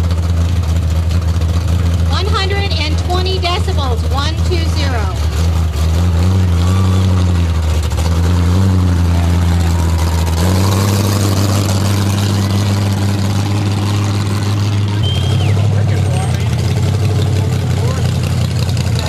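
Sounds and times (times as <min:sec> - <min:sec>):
car engine through open exhaust: 0:00.0 - 0:19.0.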